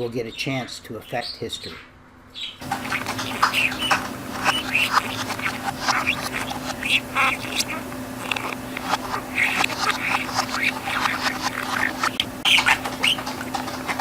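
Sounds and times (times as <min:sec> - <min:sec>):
budgerigar chattering and warbling: 0:02.4 - 0:14.0
steady low hum: 0:02.6 - 0:14.0.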